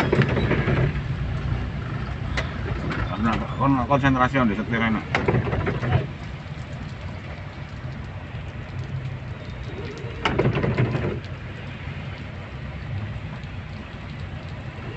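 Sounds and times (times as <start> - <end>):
car driving on wet road: 0.0 - 14.9
tyres hissing on water: 0.0 - 14.9.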